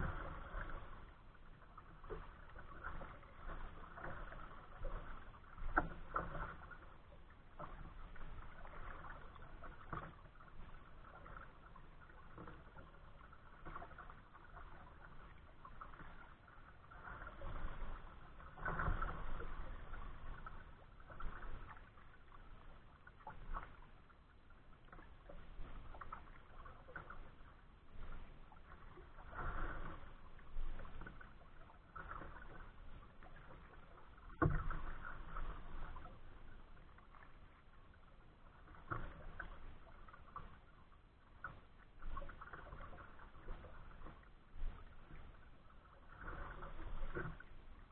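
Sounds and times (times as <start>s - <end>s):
water lapping against kayak hull: 0.0s - 47.9s.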